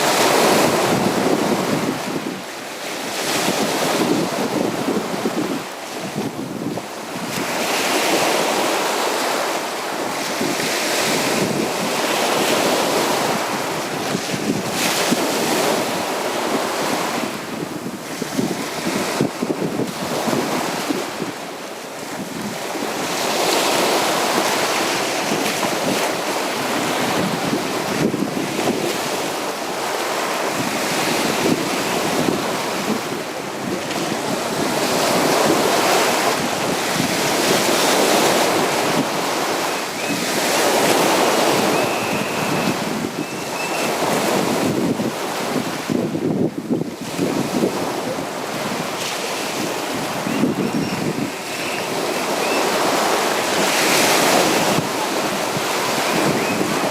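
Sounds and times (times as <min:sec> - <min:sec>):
sea waves breaking on beach: 0:00.0 - 0:56.9.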